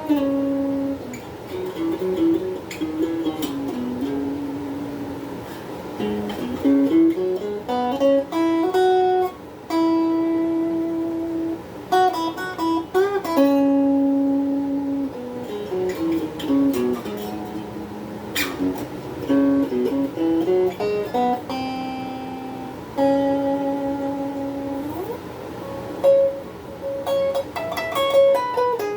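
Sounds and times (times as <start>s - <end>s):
clean electric guitar melody: 0.0s - 28.9s.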